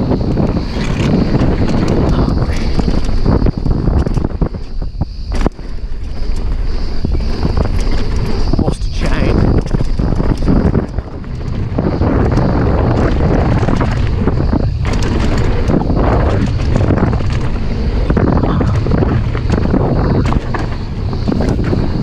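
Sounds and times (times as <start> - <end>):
bike rattling and knocking: 0.0 - 22.0
bike tyres rolling over dirt: 0.0 - 22.0
wind buffeting microphone: 0.0 - 22.0.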